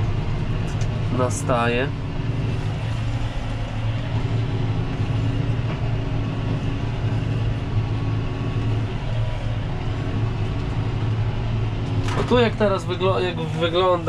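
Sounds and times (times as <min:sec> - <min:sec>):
tractor engine under heavy load: 0:00.0 - 0:14.0.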